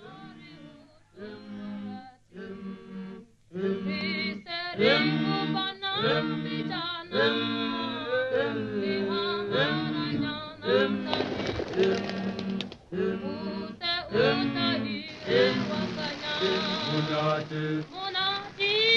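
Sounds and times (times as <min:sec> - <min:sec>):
unaccompanied voices singing: 0:00.0 - 0:18.9.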